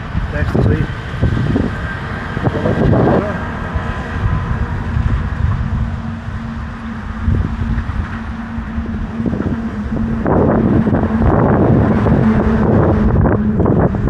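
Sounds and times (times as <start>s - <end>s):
low hum: 0.0s - 14.0s
wind buffeting microphone: 0.0s - 14.0s.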